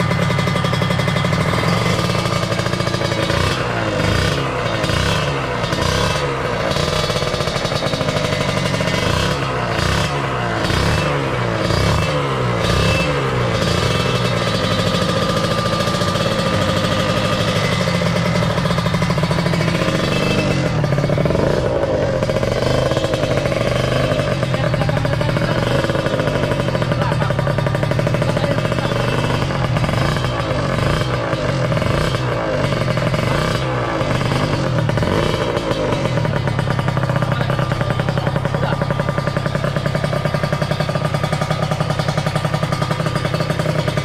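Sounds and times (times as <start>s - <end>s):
two-stroke motorcycle engine revving: 0.0s - 44.0s.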